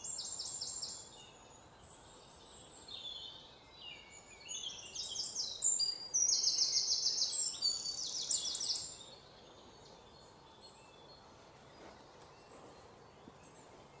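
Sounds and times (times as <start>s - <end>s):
faint background hiss: 0.0s - 14.0s
small birds chirping: 0.0s - 14.0s.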